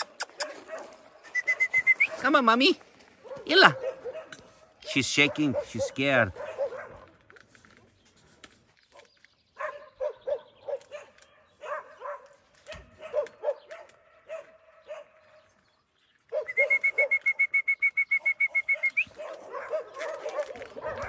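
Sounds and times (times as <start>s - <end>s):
dogs barking: 0.0s - 2.4s, 3.2s - 7.3s, 8.9s - 15.6s, 16.2s - 21.0s.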